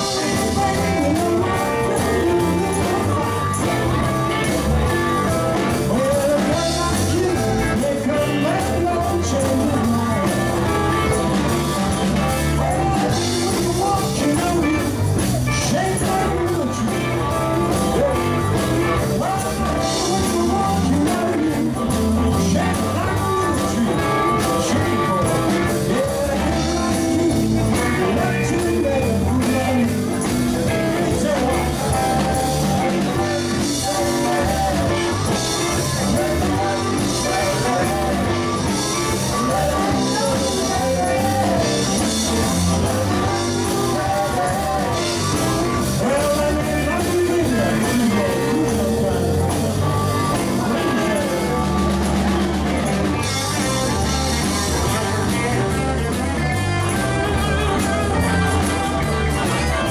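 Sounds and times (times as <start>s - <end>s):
guitar: 0.0s - 59.9s
rock and roll band playing: 0.0s - 59.9s.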